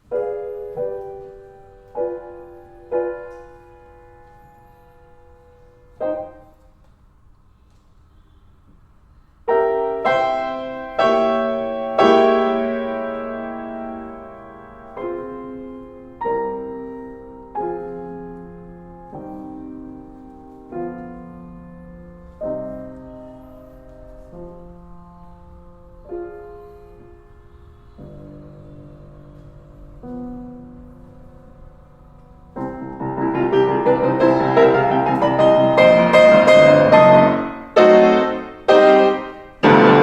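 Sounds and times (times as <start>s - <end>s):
piano chords: 0.0s - 7.5s, 9.2s - 40.0s.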